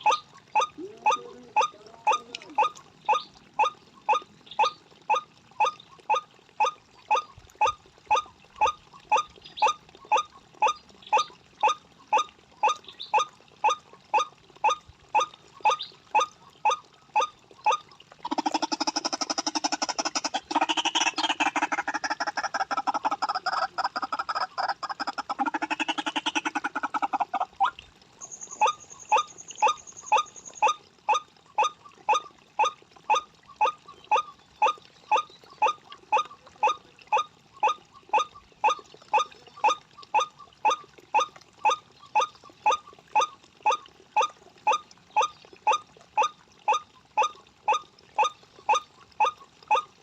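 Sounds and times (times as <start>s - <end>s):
waterhen calling: 0.0s - 50.0s.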